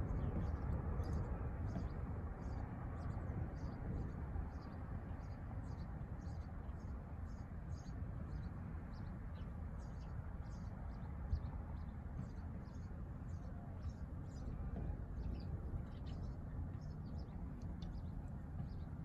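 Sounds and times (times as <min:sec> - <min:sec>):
small songbirds chirping: 0:00.0 - 0:19.0
steady low rumble: 0:00.0 - 0:19.0.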